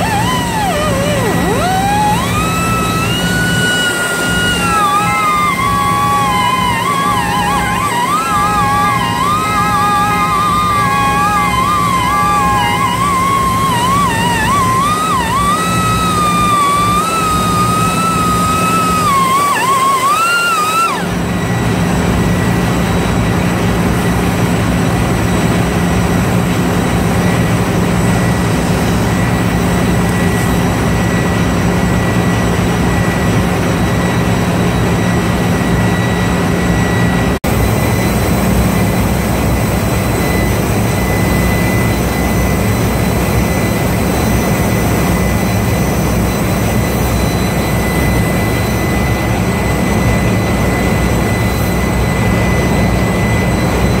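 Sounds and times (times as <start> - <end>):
arc welding drone: 0.0 - 54.0
thin high whine: 0.0 - 54.0.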